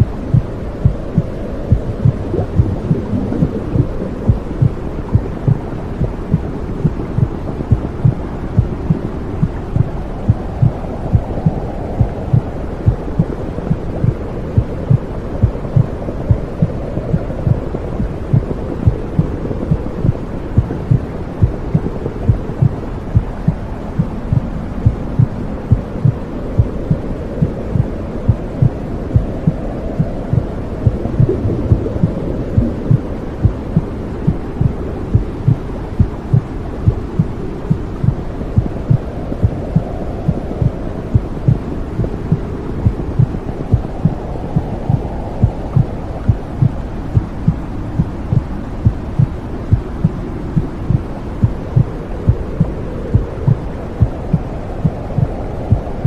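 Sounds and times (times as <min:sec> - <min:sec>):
heartbeat thumping: 0:00.0 - 0:55.9
low whooshing womb noise: 0:00.0 - 0:56.0.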